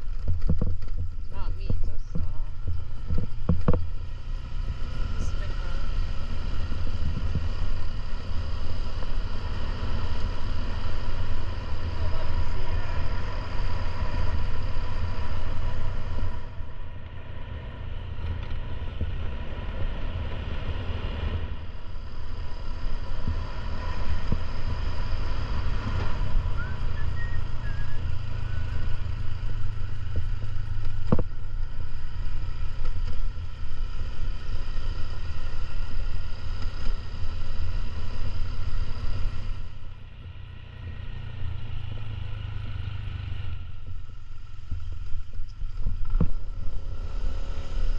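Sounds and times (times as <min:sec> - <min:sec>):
motorcycle engine running: 0:00.0 - 0:47.9
road noise: 0:00.0 - 0:47.9.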